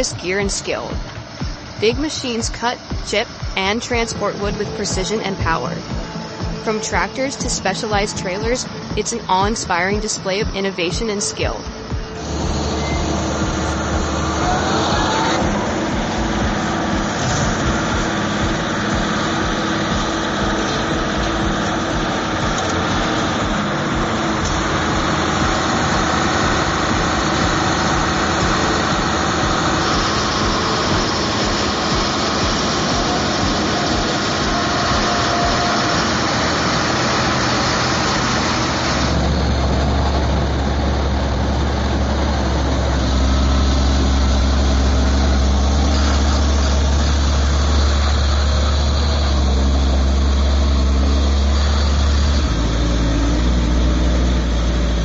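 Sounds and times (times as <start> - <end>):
heavy diesel machinery running: 0.0 - 55.0
low engine hum: 0.0 - 55.0.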